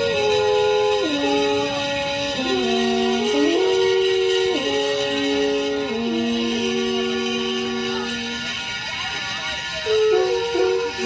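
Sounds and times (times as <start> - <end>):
alphorns playing in harmony: 0.0 - 11.0.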